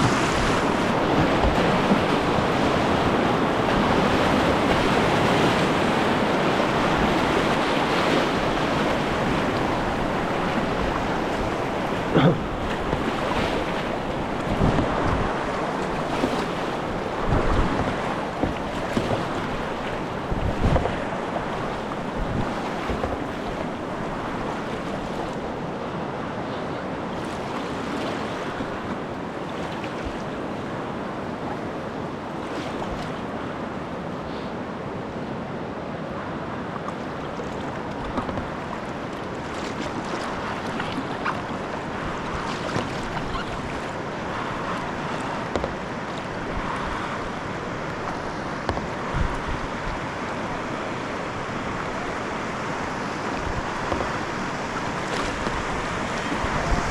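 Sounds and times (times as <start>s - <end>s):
river water rushing: 0.0s - 56.9s.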